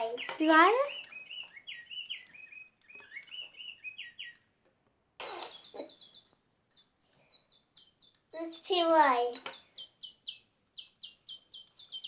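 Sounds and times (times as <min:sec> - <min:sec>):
electronic toy bird chirping: 0:00.0 - 0:04.4, 0:05.4 - 0:12.0.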